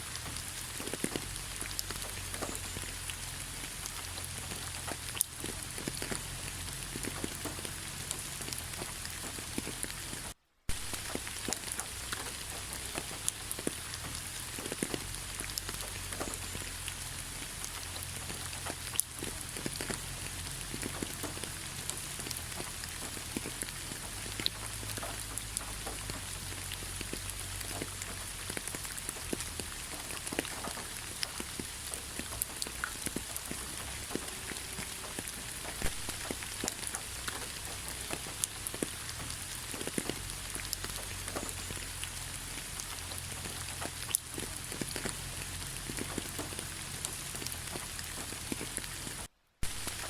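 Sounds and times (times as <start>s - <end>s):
raindrops ticking: 0.0s - 50.0s
steady rain hiss: 0.0s - 50.0s.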